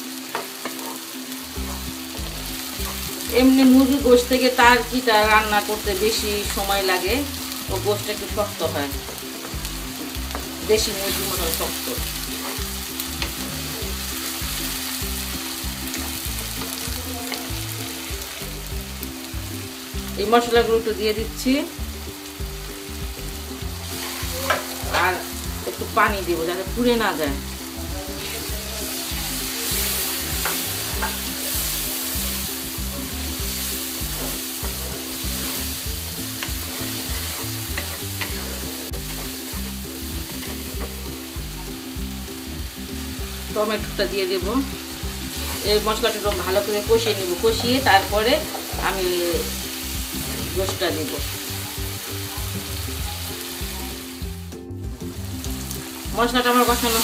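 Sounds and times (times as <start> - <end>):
background music: 0.0 - 57.0
onions sizzling in hot oil: 0.0 - 57.0.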